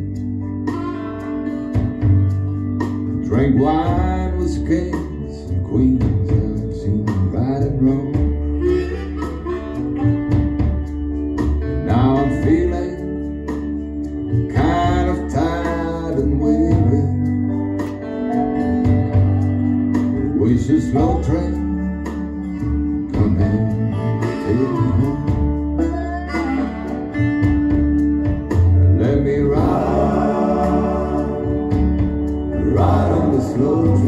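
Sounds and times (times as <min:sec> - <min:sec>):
blues guitar song over loudspeakers: 0:00.0 - 0:34.0.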